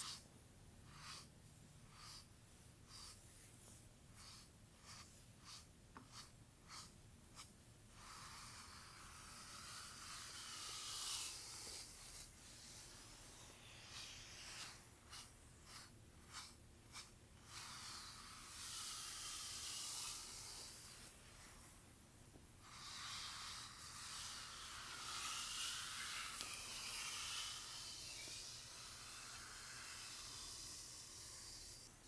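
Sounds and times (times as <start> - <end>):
bristle brush stroking hair: 0.8 - 21.8, 22.6 - 32.0.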